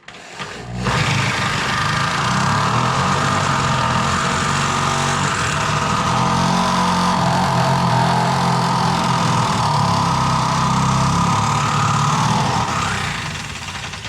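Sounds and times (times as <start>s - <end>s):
electric drill boring through metal: 0.0s - 14.0s.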